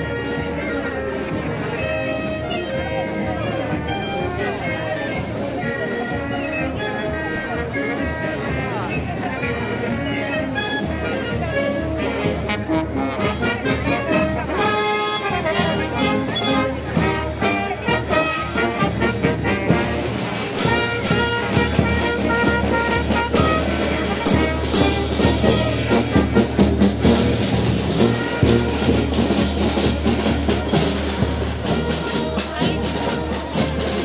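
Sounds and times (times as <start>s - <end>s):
brass band playing: 0.0s - 34.0s.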